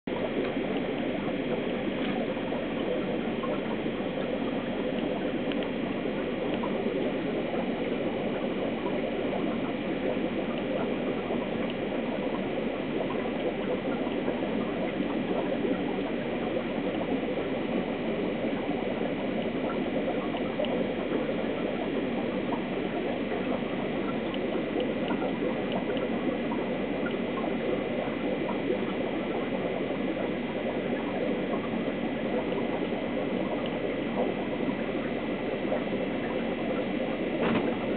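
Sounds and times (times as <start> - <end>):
aquarium filter water trickling: 0.1 - 37.9.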